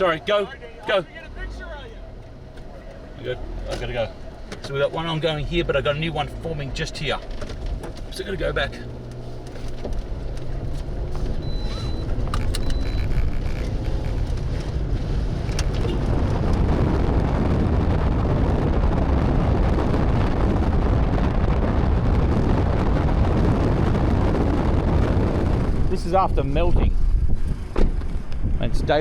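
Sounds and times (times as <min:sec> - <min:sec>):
car driving away: 0:00.0 - 0:26.0
road and wind noise: 0:00.0 - 0:29.0.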